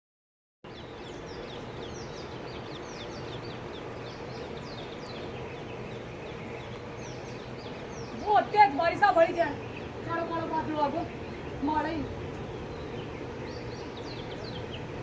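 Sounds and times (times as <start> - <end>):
small birds chirping: 0.6 - 15.0
steady outdoor background hiss: 0.6 - 15.0.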